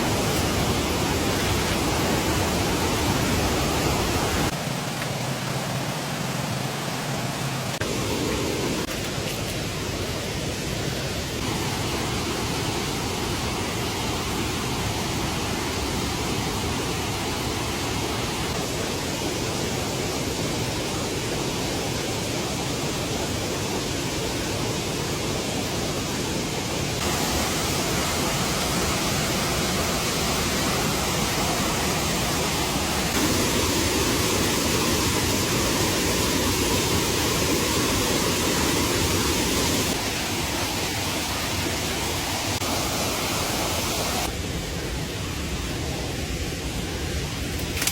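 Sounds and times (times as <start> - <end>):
rushing water: 0.0 - 47.9.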